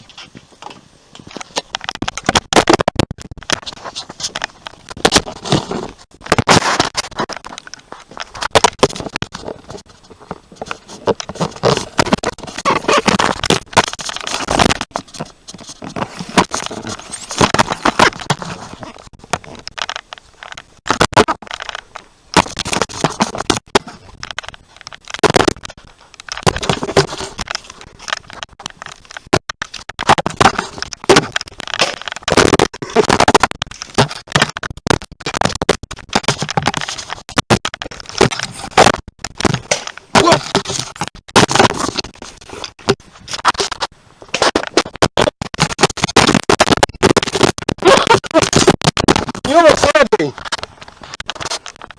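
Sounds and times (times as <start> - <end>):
scraping and rustling: 0.0 - 51.9.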